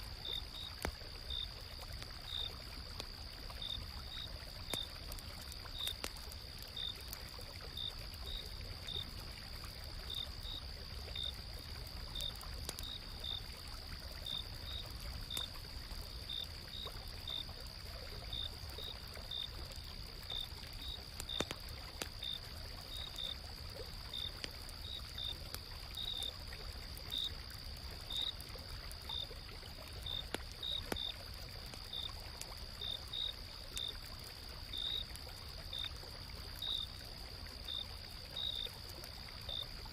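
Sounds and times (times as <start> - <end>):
campfire crackles: 0.0 - 39.9
cricket chirps: 0.0 - 39.9.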